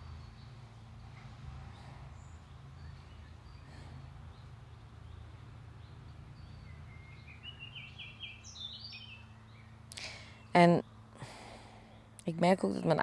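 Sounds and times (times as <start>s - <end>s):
small bird singing rising notes: 0.0s - 11.1s.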